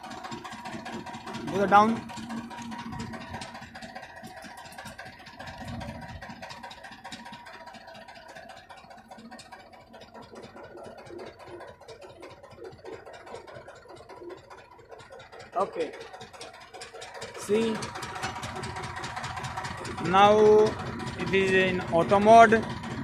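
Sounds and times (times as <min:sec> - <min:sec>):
faint steady hydraulic whine: 0:00.0 - 0:23.0
tractor engine idling: 0:00.0 - 0:23.0.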